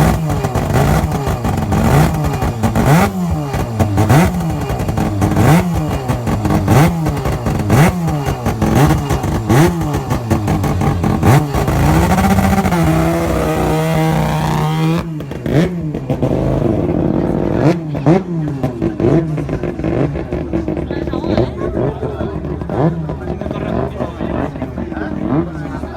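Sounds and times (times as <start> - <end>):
rotary motorcycle engine revving: 0.0 - 25.9.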